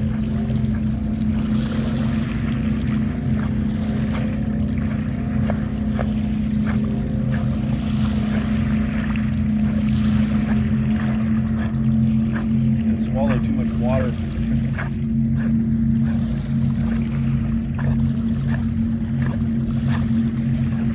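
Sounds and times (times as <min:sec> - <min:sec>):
light water splashes: 0:00.0 - 0:20.9
motorboat engine idling: 0:00.0 - 0:20.9.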